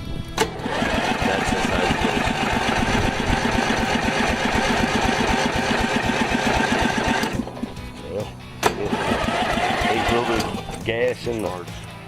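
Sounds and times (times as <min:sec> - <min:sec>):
small tractor engine puttering: 0:00.3 - 0:11.0.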